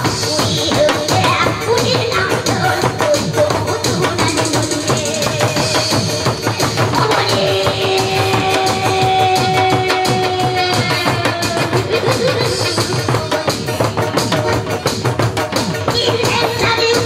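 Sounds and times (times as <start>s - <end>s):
barrel drums beaten with sticks: 0.0s - 17.0s.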